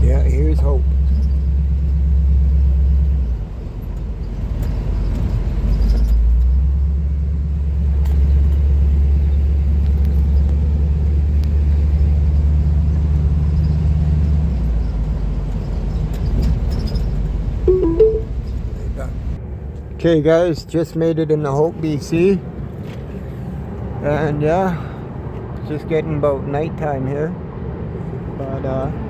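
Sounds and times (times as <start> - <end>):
road rumble: 0.0 - 17.6, 21.5 - 29.0.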